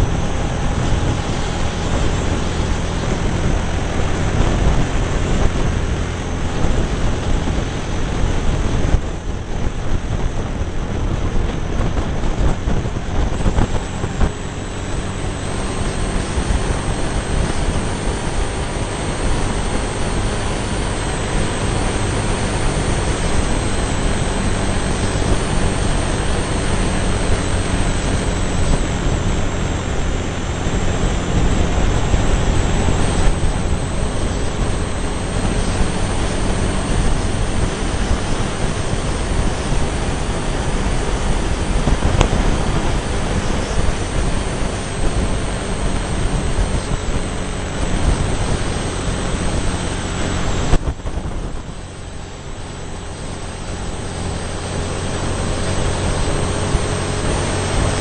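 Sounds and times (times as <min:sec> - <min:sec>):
motorcycle engine running: 0:00.0 - 0:58.0
wind rushing on microphone: 0:00.0 - 0:58.0.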